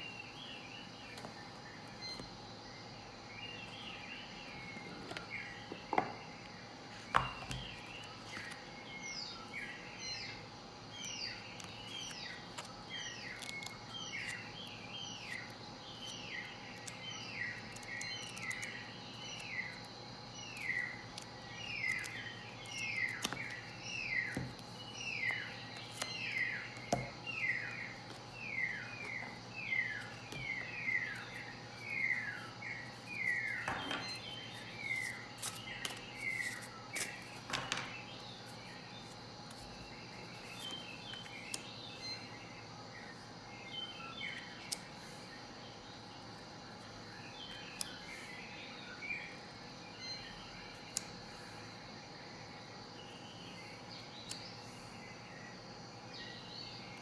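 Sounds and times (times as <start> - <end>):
bird chirping: 0.0 - 51.8.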